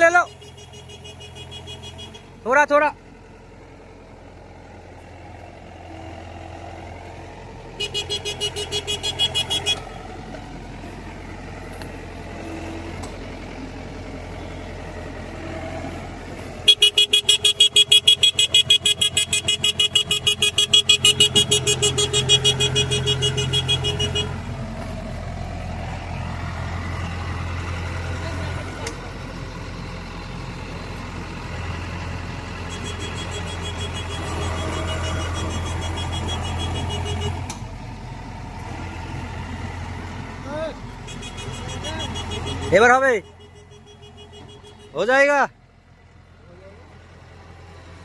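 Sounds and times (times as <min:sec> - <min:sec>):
combine harvester engine humming: 0:00.0 - 0:48.0.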